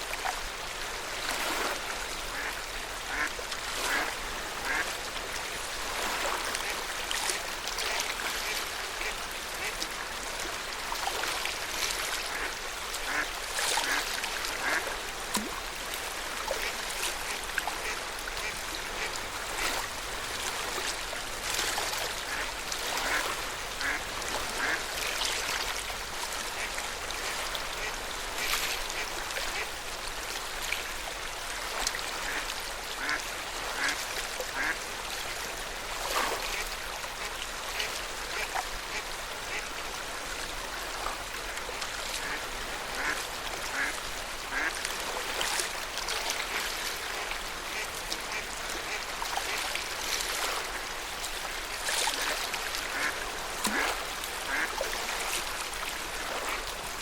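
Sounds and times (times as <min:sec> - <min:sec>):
lake water lapping at shore: 0:00.0 - 0:57.0.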